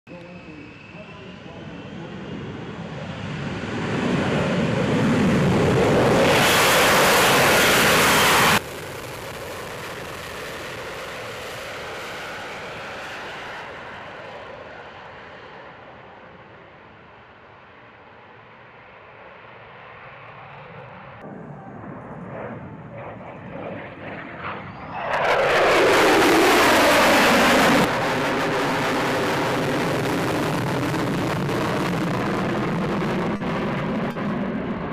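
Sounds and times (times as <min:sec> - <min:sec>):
jet engine roaring: 0:00.1 - 0:34.9.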